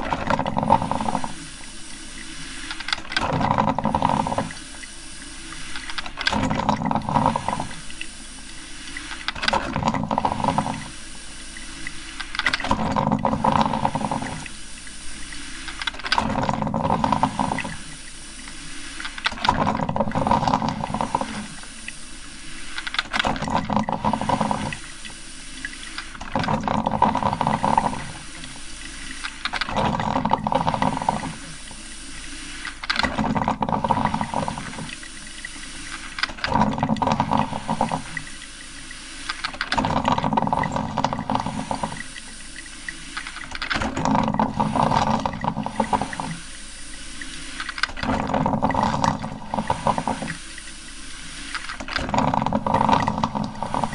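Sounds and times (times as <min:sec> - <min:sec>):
coffee maker gurgling and sputtering: 0:00.0 - 0:53.9.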